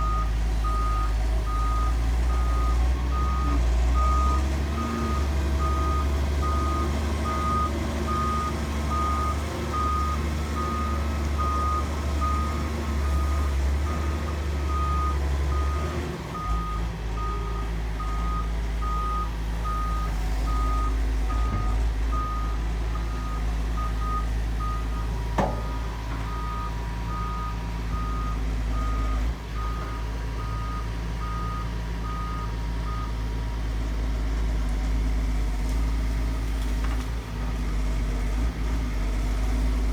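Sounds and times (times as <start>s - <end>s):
excavator reversing alarm beeping: 0.0s - 33.3s
diesel engine rumble: 0.0s - 39.9s.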